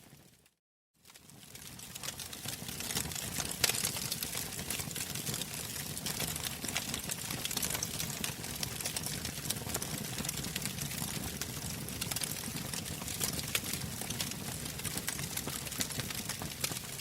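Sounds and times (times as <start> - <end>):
wood fire crackling: 1.0 - 17.0.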